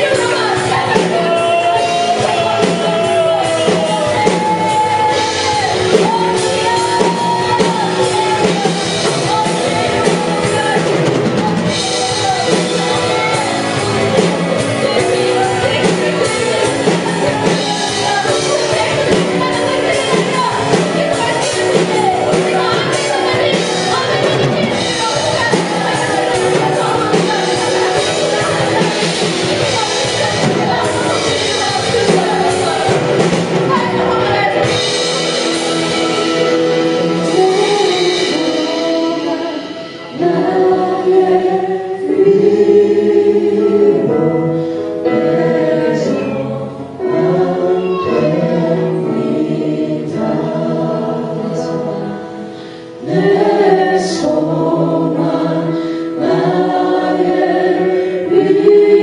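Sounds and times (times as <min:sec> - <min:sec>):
group singing held notes: 0:00.0 - 0:59.0
worship band playing: 0:00.0 - 0:59.0.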